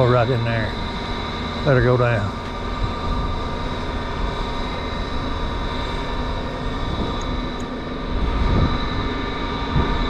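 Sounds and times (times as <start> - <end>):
mechanical hum with whining tones: 0.0 - 10.0.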